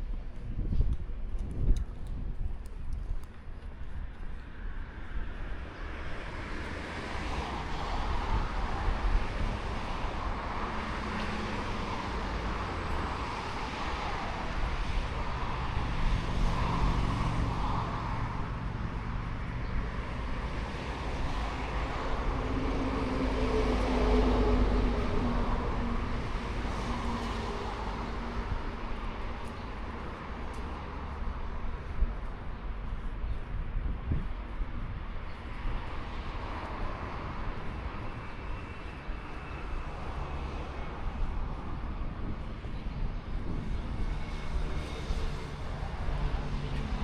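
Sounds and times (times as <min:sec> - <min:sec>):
road traffic rushing: 0:04.5 - 0:47.0.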